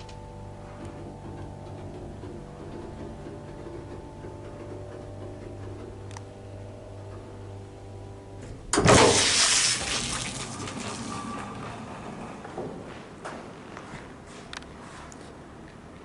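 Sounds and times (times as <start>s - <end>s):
hydraulic lift machinery hum: 0.0s - 14.4s.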